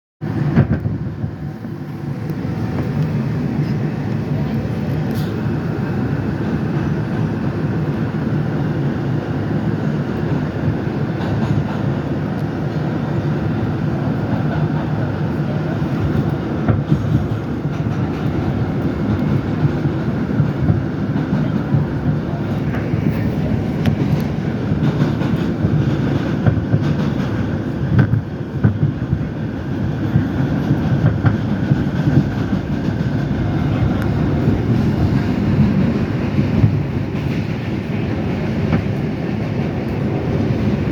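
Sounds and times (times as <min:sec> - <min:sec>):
subway train rumble: 0:00.2 - 0:40.9.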